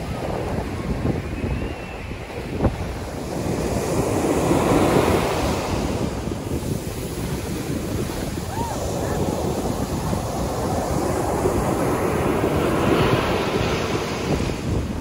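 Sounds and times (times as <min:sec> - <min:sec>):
ocean surf breaking on sand: 0:00.0 - 0:15.0
wind buffeting microphone: 0:00.0 - 0:15.0.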